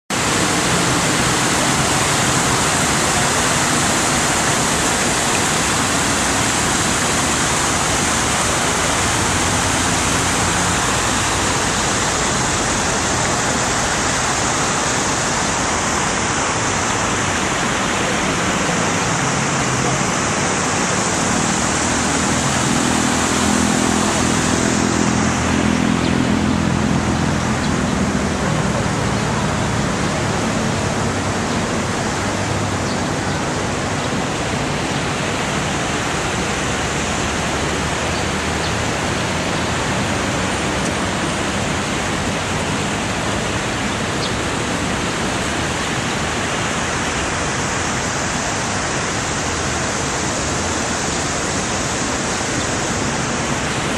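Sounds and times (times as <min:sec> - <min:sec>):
fountain water rushing: 0:00.1 - 0:53.9.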